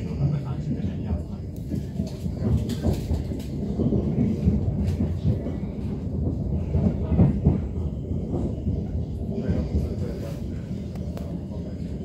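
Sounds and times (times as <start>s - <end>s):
electric train rumble from inside: 0.0s - 12.0s.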